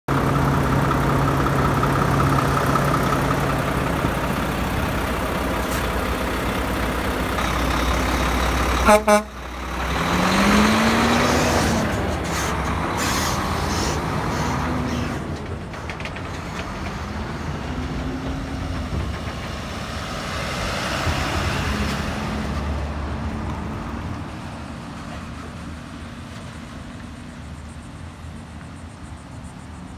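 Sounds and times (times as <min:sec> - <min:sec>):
diesel truck engine: 0:00.1 - 0:29.9
pickup truck passing: 0:00.1 - 0:29.9
trailer rumble and tyre noise: 0:00.1 - 0:29.9.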